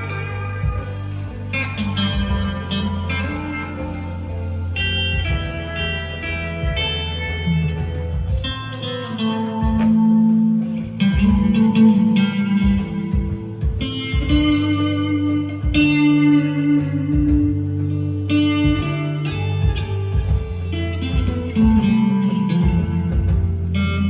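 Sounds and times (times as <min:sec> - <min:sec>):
backing track: 0:00.0 - 0:24.0
clean electric guitar lead: 0:00.0 - 0:24.0.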